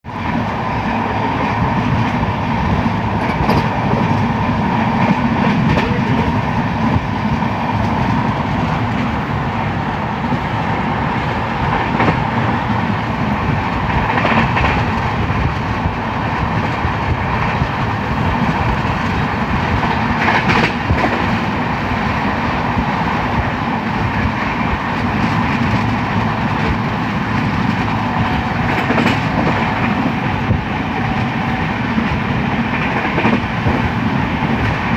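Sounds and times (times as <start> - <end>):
train rumbling: 0.0 - 34.9
wheels clacking over rail joints: 1.2 - 9.2, 11.6 - 21.7, 23.7 - 34.9.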